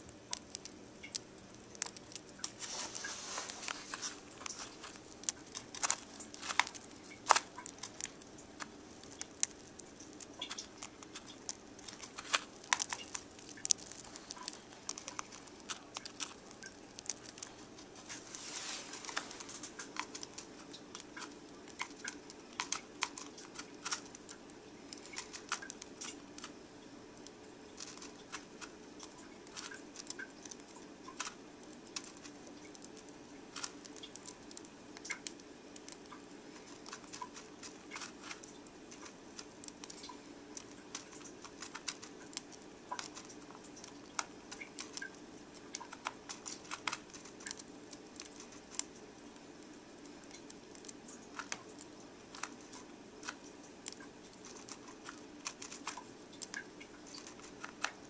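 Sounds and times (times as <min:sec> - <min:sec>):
beaks cracking and picking seed: 0:00.0 - 0:58.0
steady hum: 0:00.0 - 0:58.0.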